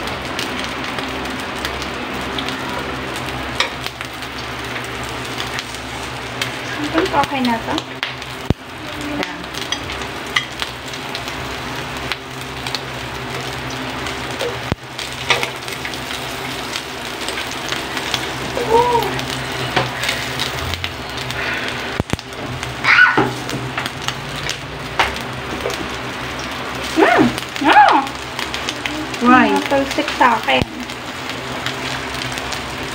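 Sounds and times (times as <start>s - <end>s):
food sizzling on grill: 0.0s - 32.9s.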